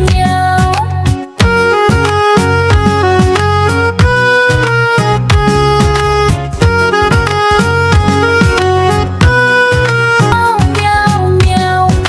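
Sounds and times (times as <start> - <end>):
instrumental music with reedy melody: 0.0 - 12.0.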